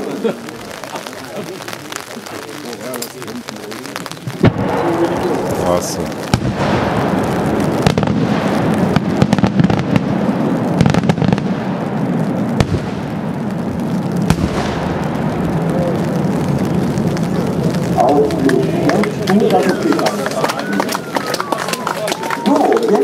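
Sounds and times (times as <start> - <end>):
distant fireworks shell booming: 0.0 - 22.3
loud fireworks bangs: 0.0 - 23.0.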